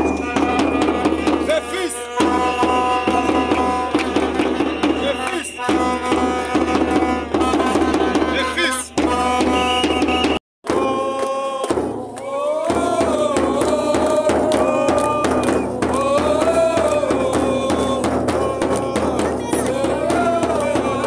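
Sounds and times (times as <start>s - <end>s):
drums beating: 0.0s - 21.0s
fans chanting: 0.2s - 21.0s.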